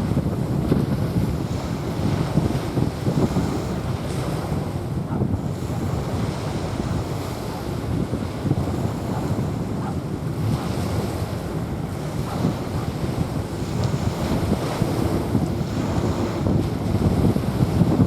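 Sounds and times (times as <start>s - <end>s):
sea waves washing onto beach: 0.0s - 18.0s
wind buffeting microphone: 0.0s - 18.0s.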